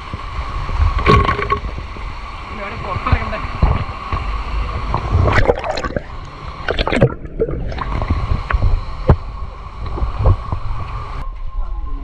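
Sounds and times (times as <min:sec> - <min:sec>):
water splashing and sloshing: 0:00.0 - 0:11.2
low rumble: 0:00.0 - 0:12.0.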